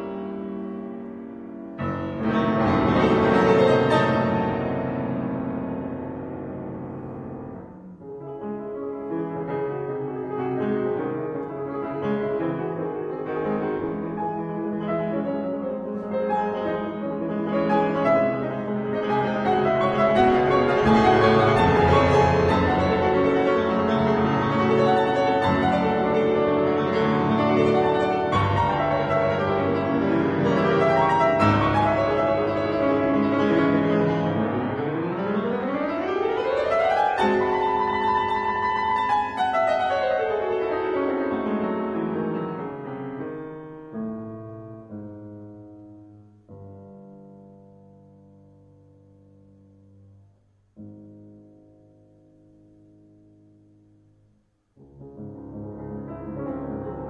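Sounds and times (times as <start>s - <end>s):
solo classical piano: 0.0s - 57.0s.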